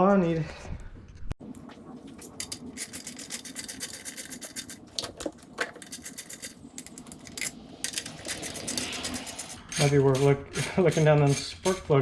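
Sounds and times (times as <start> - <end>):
hand tool clicking and rubbing: 1.6 - 11.8.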